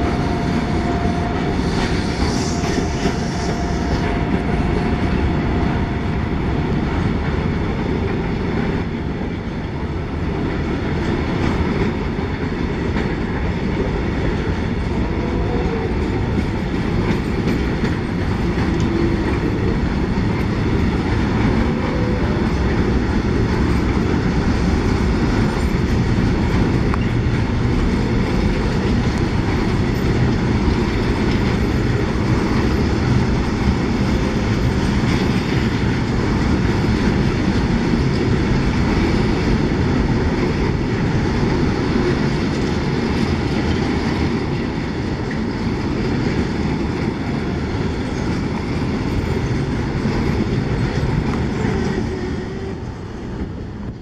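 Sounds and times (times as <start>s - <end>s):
train wheels running over rails: 0.0s - 54.0s.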